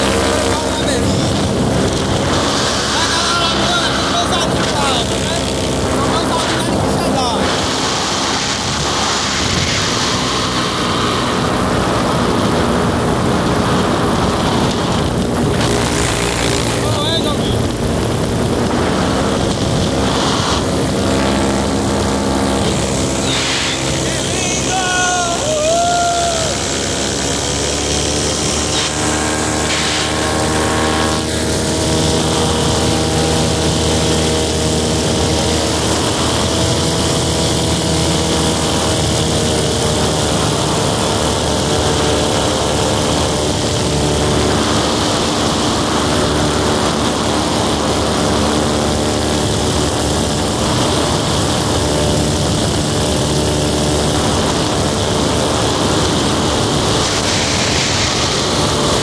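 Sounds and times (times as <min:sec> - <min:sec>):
air rushing over microphone: 0:00.0 - 0:59.0
paramotor engine and propeller: 0:00.0 - 0:59.0.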